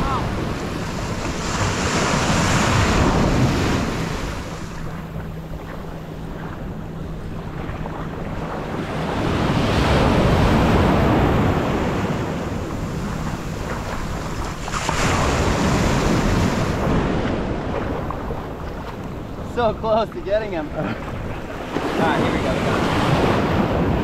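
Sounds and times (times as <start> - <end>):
waves breaking and washing in: 0.0 - 24.0
wind buffeting microphone: 0.0 - 24.0.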